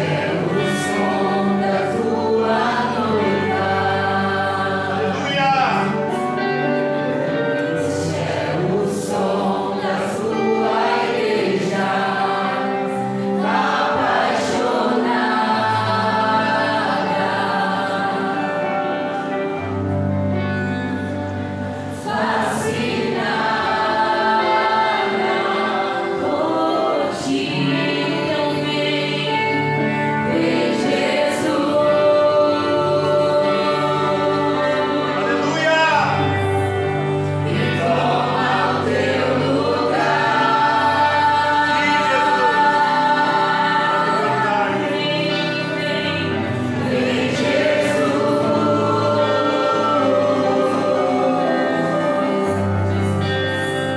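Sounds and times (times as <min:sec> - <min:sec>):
voices singing worship music: 0:00.0 - 0:53.9.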